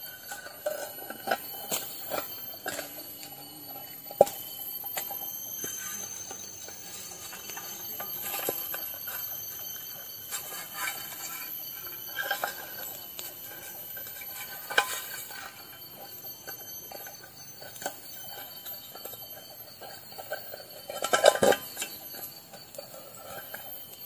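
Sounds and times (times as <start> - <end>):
high thin ringing tone: 0.0 - 24.0.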